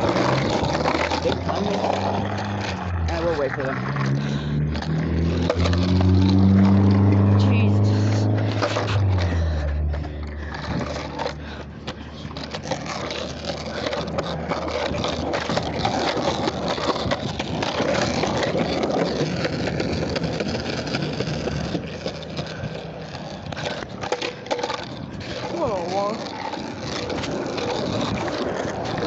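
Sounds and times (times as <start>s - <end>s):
low engine hum: 0.0s - 29.0s
skateboard wheels on rough pavement: 0.0s - 29.0s.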